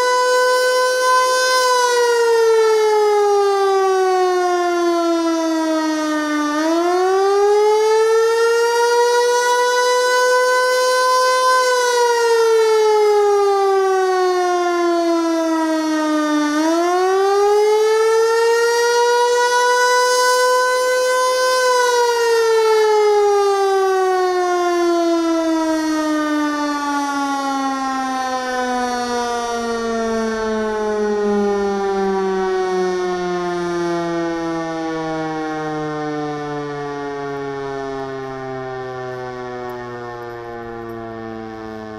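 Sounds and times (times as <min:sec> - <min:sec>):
warning siren wailing: 0:00.0 - 0:41.9.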